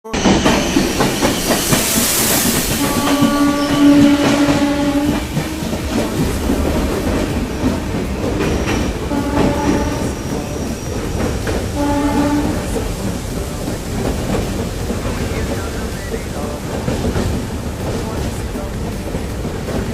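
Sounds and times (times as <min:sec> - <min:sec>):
passenger train running: 0:00.0 - 0:19.9
train horn: 0:00.0 - 0:19.9.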